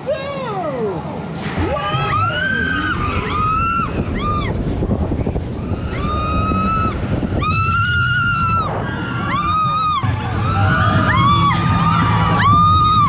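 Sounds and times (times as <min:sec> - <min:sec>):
wind on microphone: 0:01.9 - 0:13.0.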